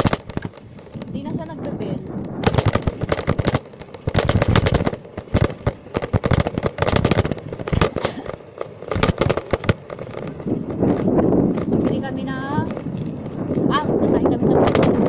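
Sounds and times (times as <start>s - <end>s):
crackling and knocking on microphone: 0.0s - 15.0s.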